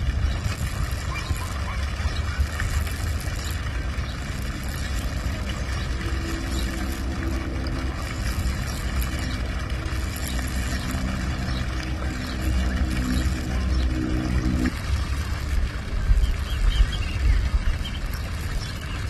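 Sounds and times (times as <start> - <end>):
falling water rushing: 0.0 - 19.0.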